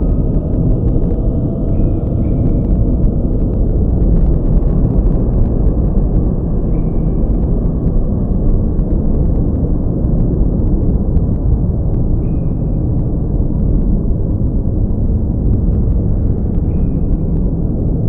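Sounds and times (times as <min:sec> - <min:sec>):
deep rumble: 0:00.0 - 0:18.0.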